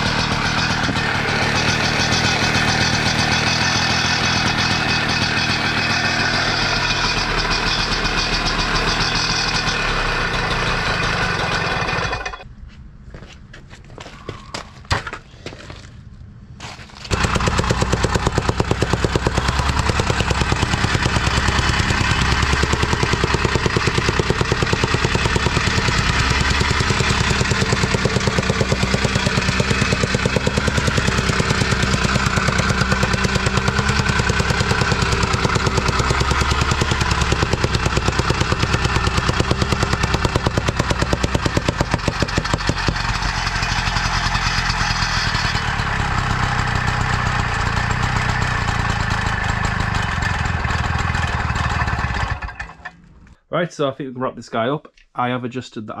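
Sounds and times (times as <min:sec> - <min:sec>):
trench rammer pounding: 0:00.0 - 0:12.5, 0:17.1 - 0:53.2.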